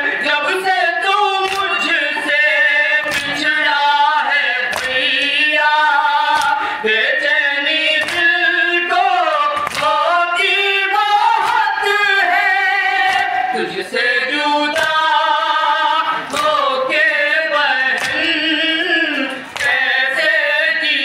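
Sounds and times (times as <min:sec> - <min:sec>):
men singing in chorus: 0:00.0 - 0:21.0
voices singing a lament: 0:00.0 - 0:21.0.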